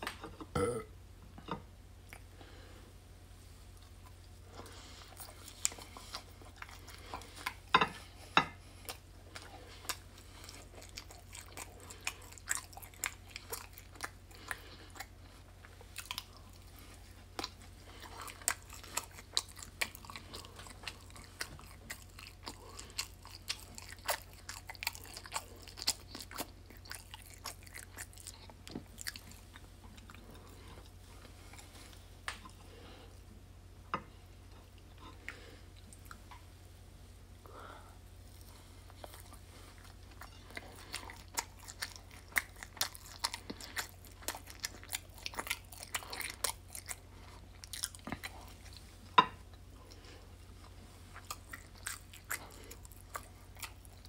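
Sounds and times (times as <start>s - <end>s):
crunchy chewing: 3.8s - 33.0s, 38.2s - 54.0s.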